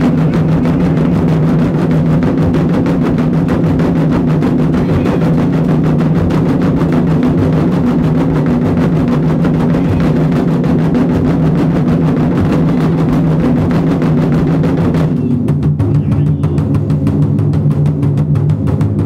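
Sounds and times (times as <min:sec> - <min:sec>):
taiko drums playing: 0:00.0 - 0:19.0.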